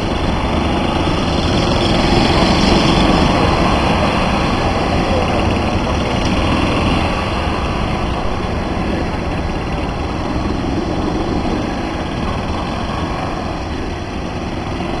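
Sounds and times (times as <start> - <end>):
golf carts driving past: 0.0 - 15.0.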